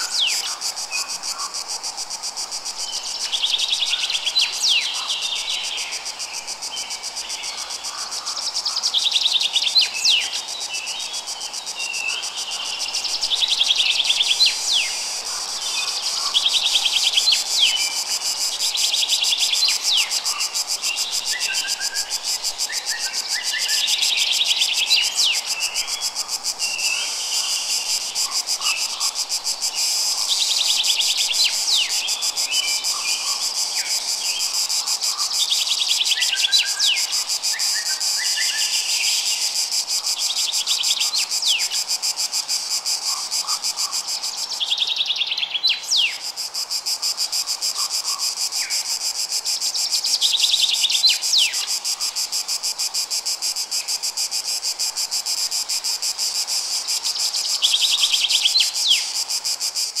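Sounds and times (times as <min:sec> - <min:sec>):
insects chirping in high trill: 0:00.0 - 1:00.0.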